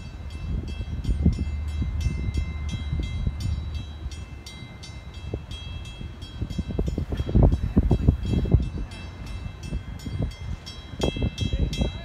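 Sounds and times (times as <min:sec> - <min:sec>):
warning bell ringing rapidly: 0:00.0 - 0:12.0.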